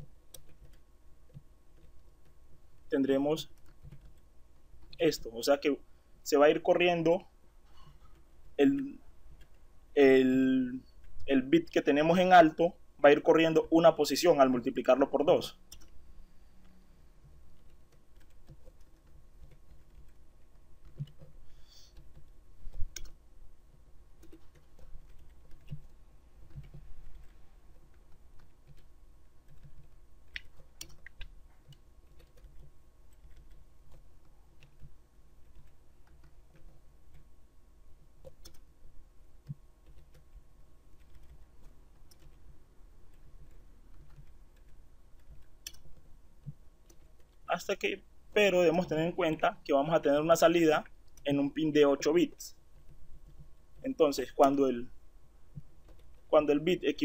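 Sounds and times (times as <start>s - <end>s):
keyboard typing: 0.0s - 5.3s, 7.8s - 9.6s, 13.4s - 37.3s, 38.0s - 47.8s, 48.5s - 54.9s, 55.5s - 57.0s
low background hum: 0.0s - 57.0s.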